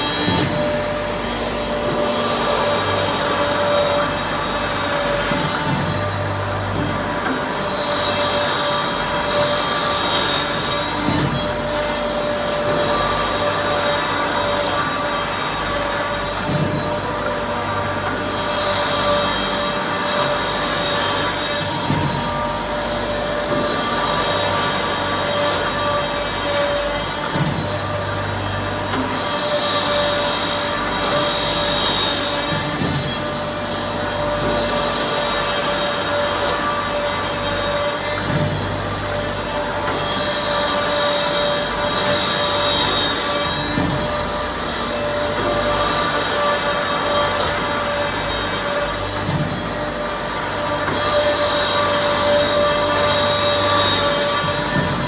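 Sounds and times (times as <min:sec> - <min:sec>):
wood shaving machine running: 0:00.0 - 0:55.0.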